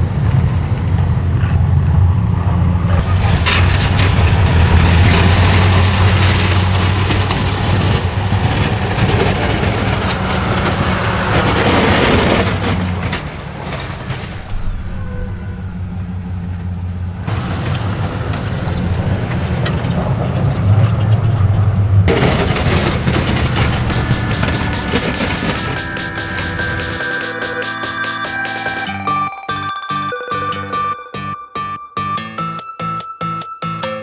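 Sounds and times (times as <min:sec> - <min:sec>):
plow scraping snow: 0:00.0 - 0:28.9
truck engine running: 0:00.0 - 0:28.9.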